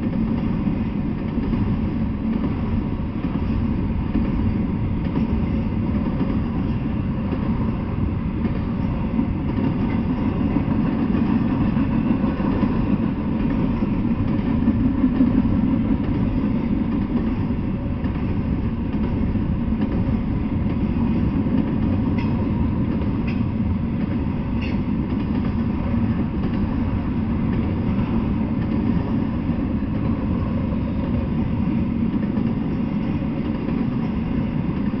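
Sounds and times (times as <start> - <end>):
freight train wheels rumbling on rails: 0.0 - 35.0.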